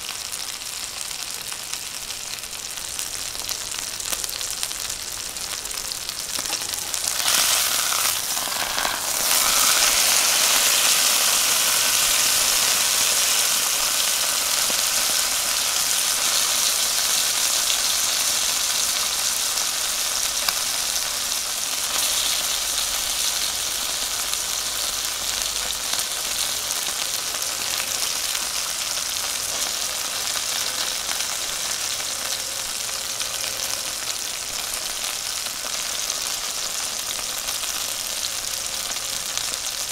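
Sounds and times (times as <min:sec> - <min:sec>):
steak sizzling in skillet: 0:00.1 - 0:39.9.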